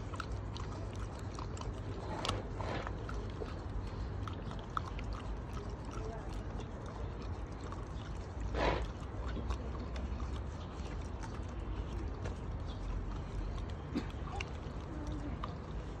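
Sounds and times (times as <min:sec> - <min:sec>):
dog lapping at a cup: 0:00.0 - 0:16.0
low background hum: 0:00.0 - 0:16.0.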